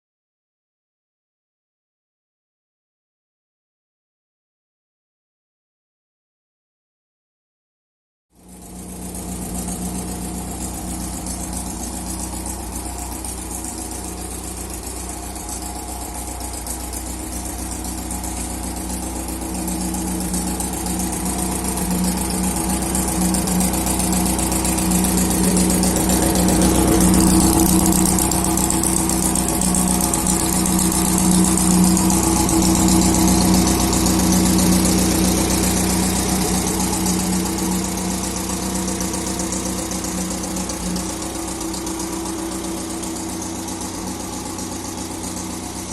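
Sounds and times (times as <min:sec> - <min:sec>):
buggy engine running: 0:08.4 - 0:45.9.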